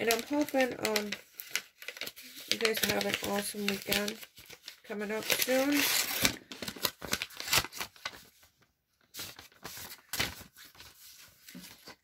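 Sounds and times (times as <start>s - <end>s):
paper rustling and scraping: 0.0s - 12.0s.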